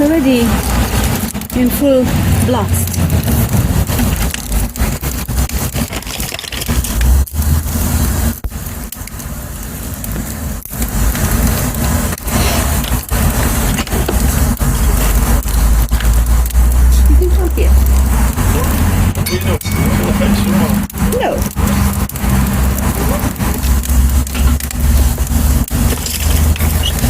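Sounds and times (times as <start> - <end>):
fire low rumble: 0.0 - 27.0
wood crackling in a stove: 0.0 - 27.0.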